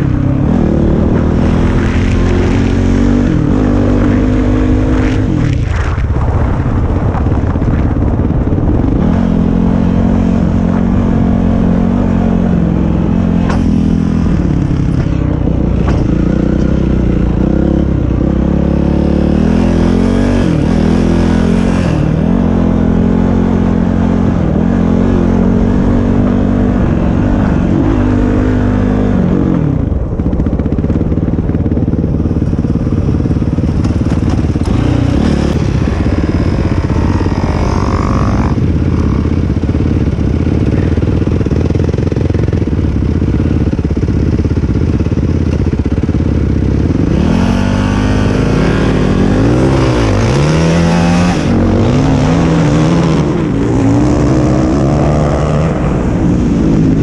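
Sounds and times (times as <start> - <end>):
atv engine revving: 0.0 - 6.0, 8.4 - 57.0.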